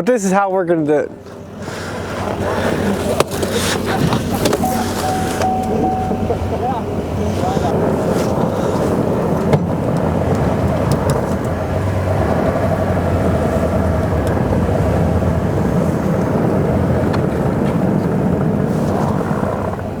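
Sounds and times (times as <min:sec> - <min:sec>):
truck engine under load: 0:01.2 - 0:20.0.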